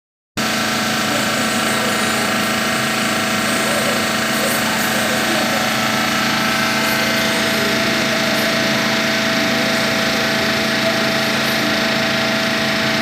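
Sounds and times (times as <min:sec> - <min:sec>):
foam cutting machine whirring: 0:00.4 - 0:13.0.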